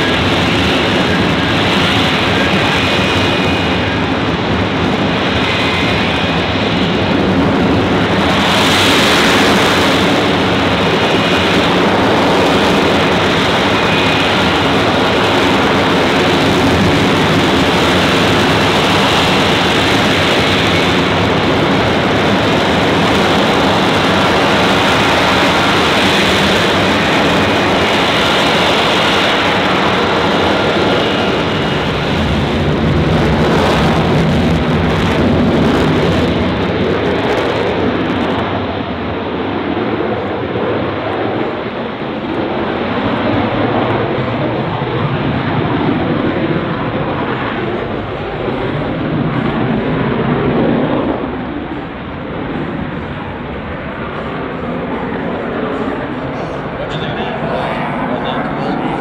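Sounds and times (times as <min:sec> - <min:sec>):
loud jet roar: 0:00.0 - 0:59.0.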